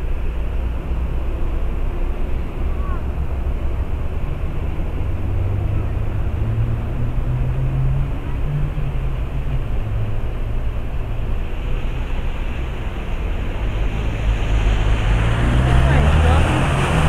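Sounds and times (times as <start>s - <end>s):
tyres pushing through water: 0.0s - 17.0s.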